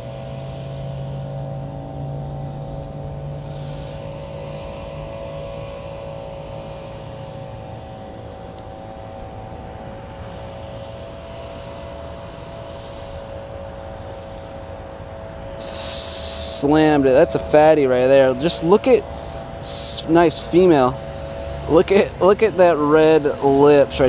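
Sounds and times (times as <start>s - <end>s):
low rumble: 0.0s - 19.9s
mechanical hum: 0.0s - 20.0s.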